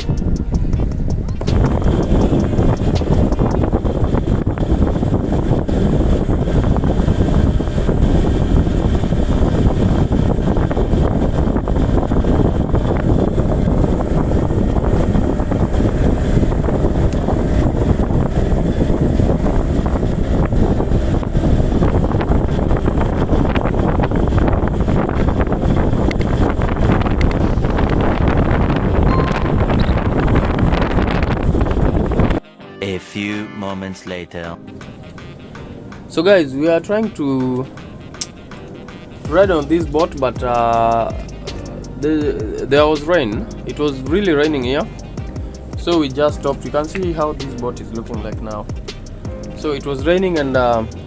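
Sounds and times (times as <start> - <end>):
wind buffeting microphone: 0.0 - 32.4, 34.6 - 51.0.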